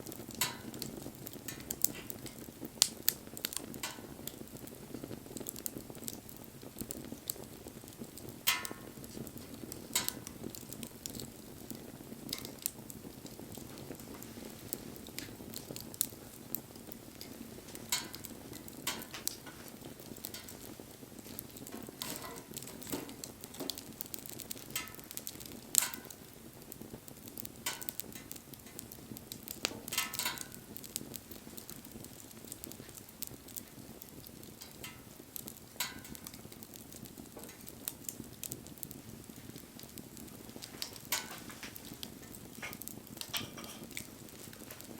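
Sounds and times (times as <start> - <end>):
fire pops and snaps: 0.0 - 44.9
wood fire crackling: 0.0 - 44.9.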